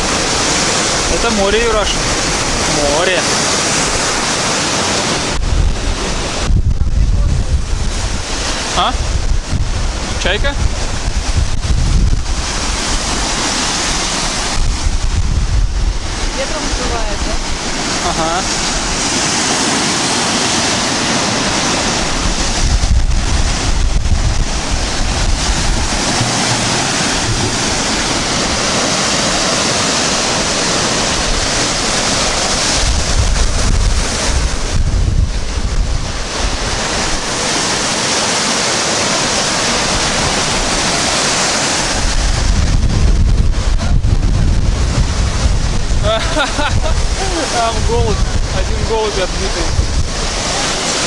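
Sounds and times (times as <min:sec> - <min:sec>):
waves breaking on beach: 0:00.0 - 0:51.0
wind buffeting microphone: 0:00.0 - 0:51.0.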